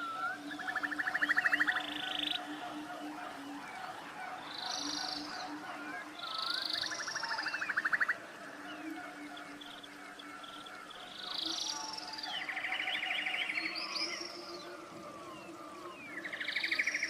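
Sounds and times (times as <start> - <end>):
birds trilling: 0.0 - 17.0.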